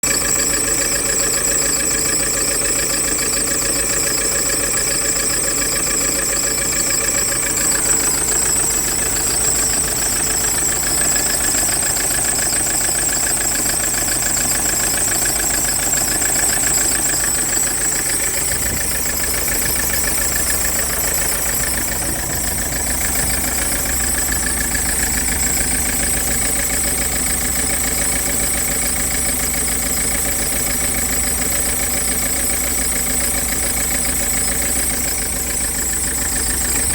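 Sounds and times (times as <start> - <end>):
misfiring diesel engine idling: 0.0 - 36.9.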